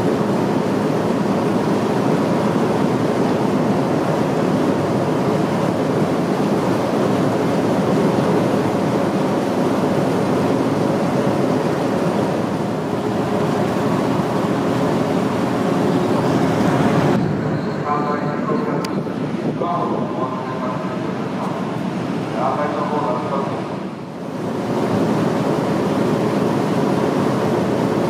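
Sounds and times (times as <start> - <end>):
ferry engines and propeller wash: 0.0 - 28.0.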